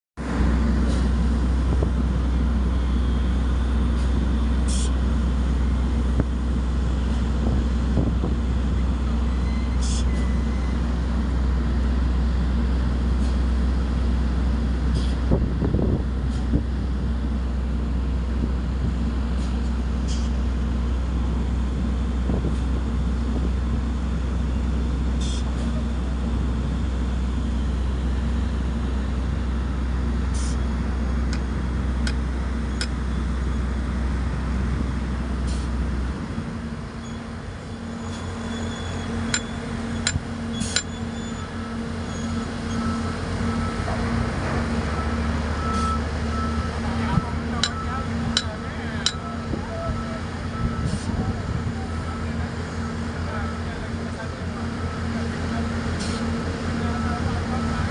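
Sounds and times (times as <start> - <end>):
diesel engine droning: 0.2 - 57.9.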